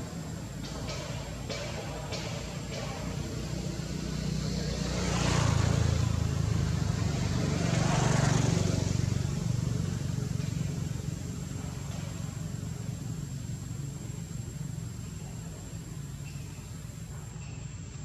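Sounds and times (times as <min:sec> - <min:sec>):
vehicle engines passing by: 0:00.0 - 0:18.0.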